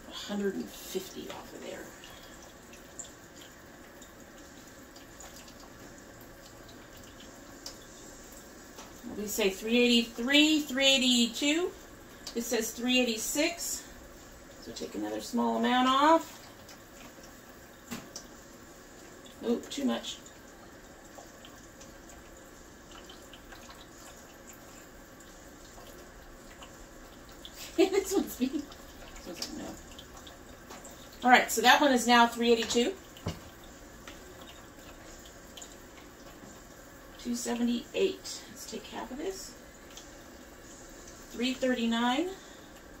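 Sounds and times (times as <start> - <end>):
faint steady hiss: 0.0 - 43.0.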